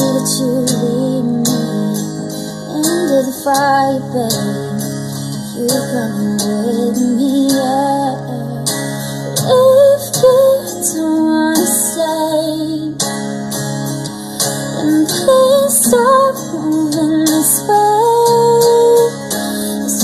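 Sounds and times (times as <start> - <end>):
woman singing: 0.0 - 13.2, 14.4 - 20.0
guitar accompaniment: 0.0 - 20.0.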